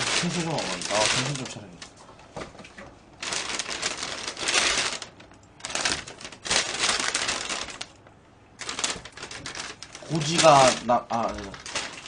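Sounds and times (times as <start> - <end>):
plastic bags rustling: 0.0 - 8.0, 8.6 - 12.0.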